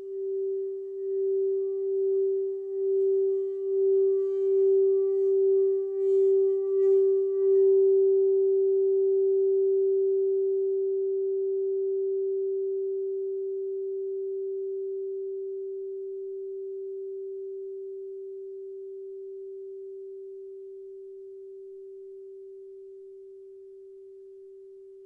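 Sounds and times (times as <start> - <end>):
crystal singing bowl ringing: 0.0 - 24.9.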